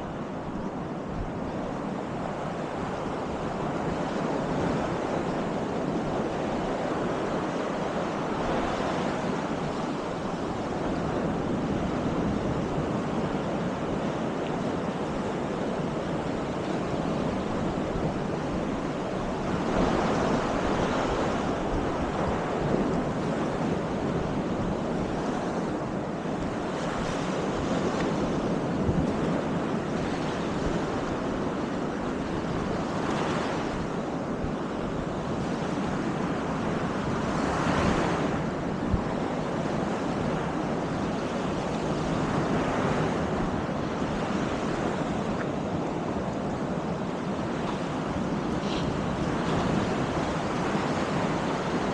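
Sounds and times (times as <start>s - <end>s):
surf washing onto beach: 0.0s - 51.9s
wind rumbling on microphone: 0.0s - 51.9s.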